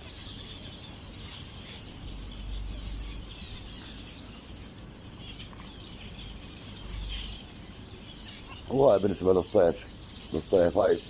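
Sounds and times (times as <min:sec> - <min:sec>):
small birds chirping and twittering: 0:00.0 - 0:11.0.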